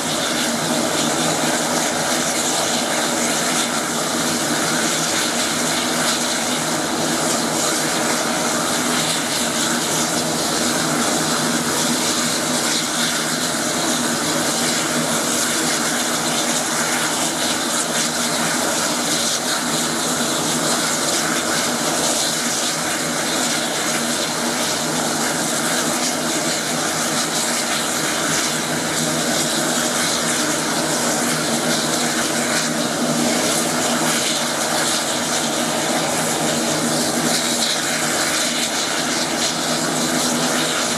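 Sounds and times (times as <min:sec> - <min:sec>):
turboprop engine and propeller: 0:00.0 - 0:40.9.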